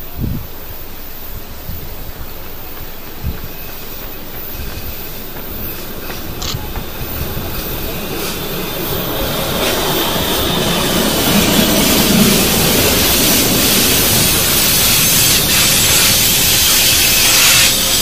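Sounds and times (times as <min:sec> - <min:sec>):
train rolling past on rails: 0:00.0 - 0:18.0.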